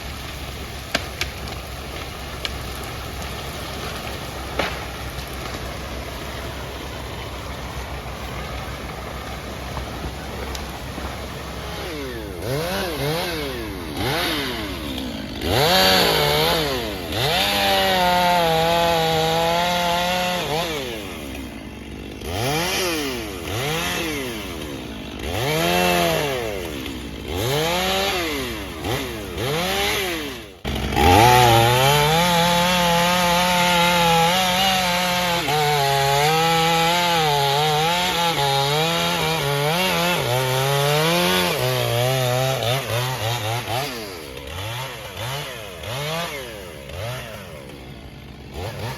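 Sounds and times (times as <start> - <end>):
chainsaw engine revving: 0.0 - 48.9.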